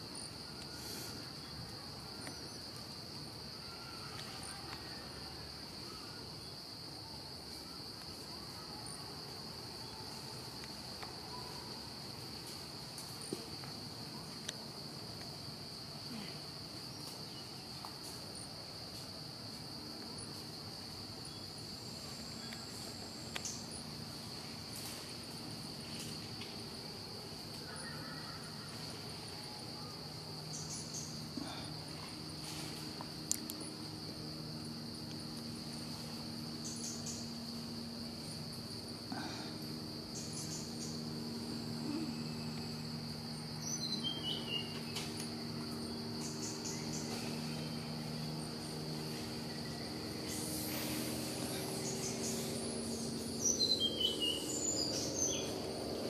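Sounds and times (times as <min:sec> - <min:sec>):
insect chorus drone: 0:00.0 - 0:56.0
low faint hum: 0:00.0 - 0:56.0.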